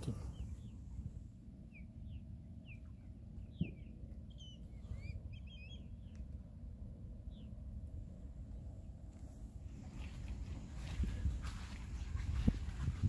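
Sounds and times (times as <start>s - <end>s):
birds chirping: 0.0s - 13.0s
water: 0.0s - 13.0s
wind: 0.0s - 13.0s.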